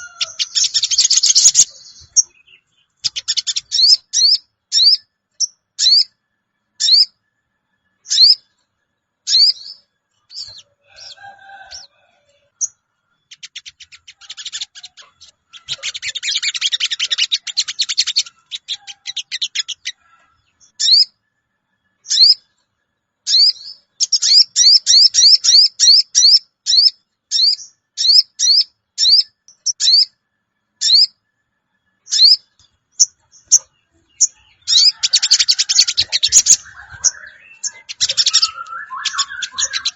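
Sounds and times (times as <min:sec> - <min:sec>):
bird chirping and trilling: 0:00.0 - 0:06.2, 0:06.8 - 0:07.2, 0:08.0 - 0:08.5, 0:09.3 - 0:21.2, 0:22.0 - 0:22.5, 0:23.3 - 0:30.2, 0:30.8 - 0:31.2, 0:32.0 - 0:39.9.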